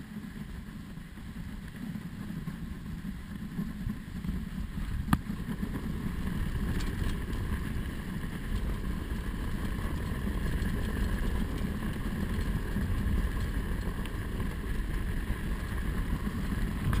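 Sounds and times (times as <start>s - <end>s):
sled rushing over packed snow: 0.0s - 17.0s
wind rumble on microphone: 0.0s - 17.0s.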